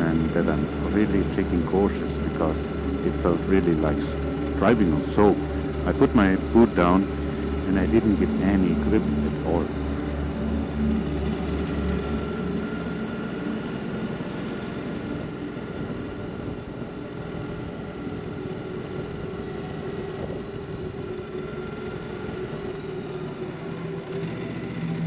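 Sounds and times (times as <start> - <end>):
motorcycle engine at low revs: 0.0 - 25.0
wind and road noise: 0.0 - 25.0.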